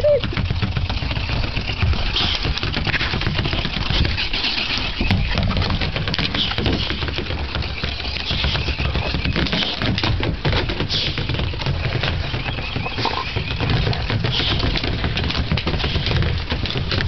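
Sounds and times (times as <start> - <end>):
dog claws scrabbling on wooden deck: 0.2 - 17.0.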